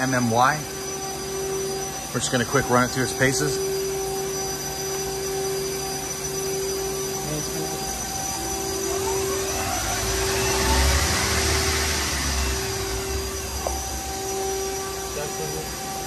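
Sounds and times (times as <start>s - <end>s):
machine tool humming: 0.0s - 16.0s
spindle whine and rush: 0.0s - 16.0s.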